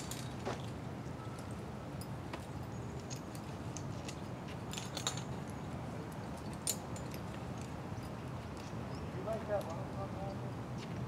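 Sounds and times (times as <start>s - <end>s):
light clicks and clinks: 0.0s - 8.8s, 9.4s - 9.8s.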